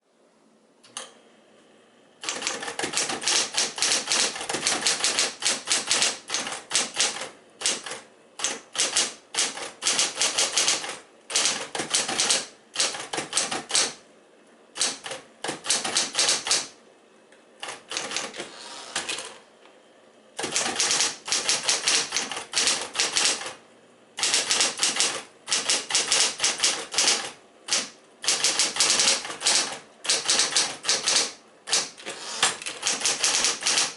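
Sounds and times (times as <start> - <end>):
electric typewriter typing: 2.2 - 14.0, 14.8 - 16.8, 17.6 - 19.4, 20.4 - 23.6, 24.2 - 33.9.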